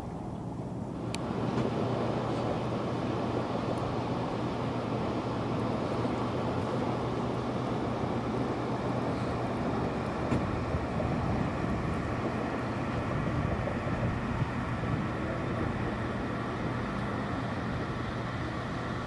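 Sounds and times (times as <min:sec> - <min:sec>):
even rushing haze: 0:00.0 - 0:19.0
low steady hum: 0:00.0 - 0:19.0.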